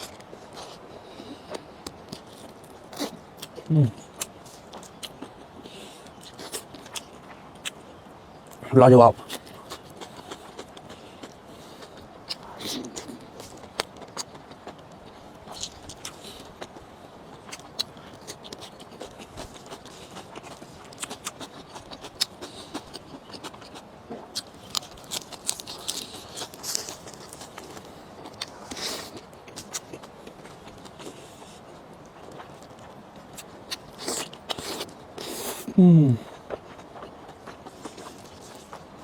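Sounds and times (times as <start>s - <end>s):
chewing with mouth clicks: 0.0s - 7.8s, 8.5s - 39.0s.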